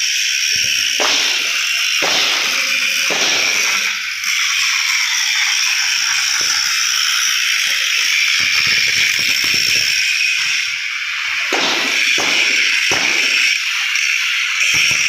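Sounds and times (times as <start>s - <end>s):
welding arc crackling and hissing: 0.0s - 15.0s.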